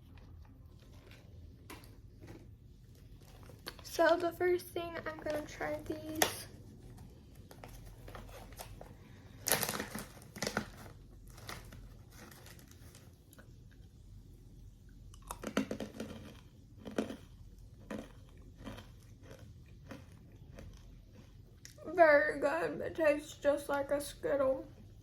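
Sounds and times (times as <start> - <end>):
snack packaging crinkling and tearing: 0.0 - 13.8, 15.1 - 21.8.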